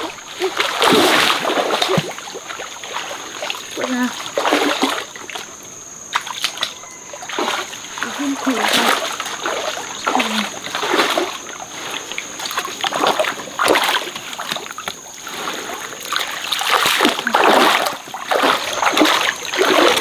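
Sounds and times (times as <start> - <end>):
faint high whine: 0.0 - 20.0
stream water splashing: 0.0 - 20.0.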